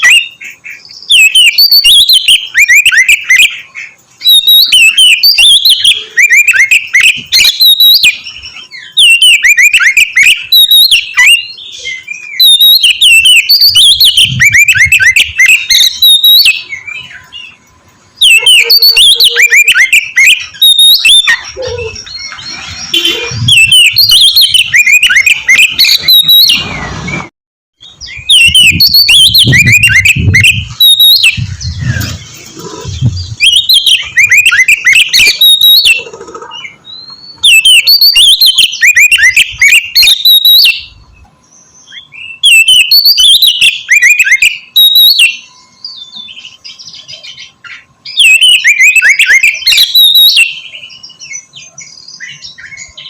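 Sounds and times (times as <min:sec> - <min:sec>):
bird singing whistled notes: 0:00.0 - 0:17.6, 0:18.2 - 0:53.0.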